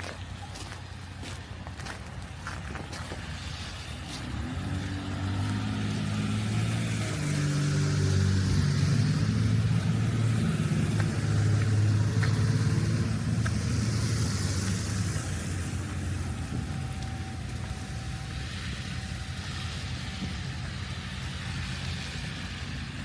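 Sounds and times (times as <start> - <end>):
vehicle engine running: 0.2 - 23.0.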